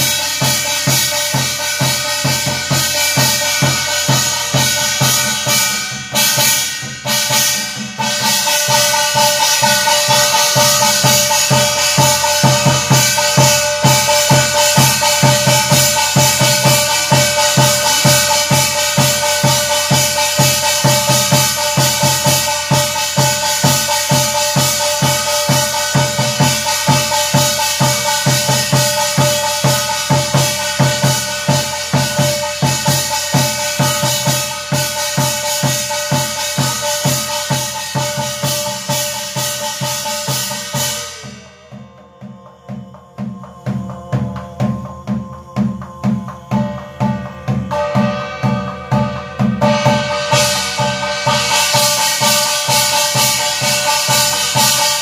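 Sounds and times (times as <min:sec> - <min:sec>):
barrel drum beaten with stick: 0:00.0 - 0:55.0.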